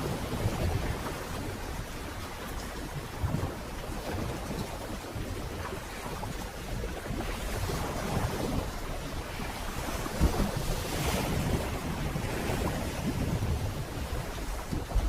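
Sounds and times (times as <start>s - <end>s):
sea water rushing and splashing: 0.0s - 15.0s
wind buffeting microphone: 0.0s - 15.0s.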